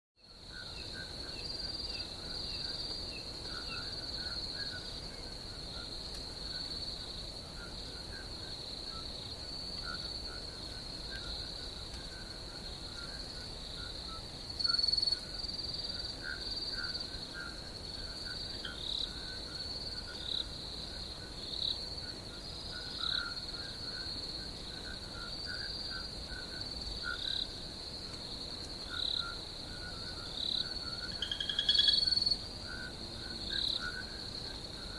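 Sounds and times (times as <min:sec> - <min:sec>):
insects trilling: 0:00.2 - 0:34.9.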